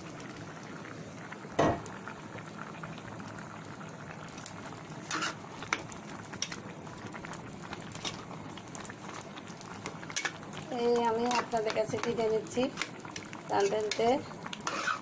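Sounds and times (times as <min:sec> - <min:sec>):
pot of food bubbling: 0:00.0 - 0:15.0.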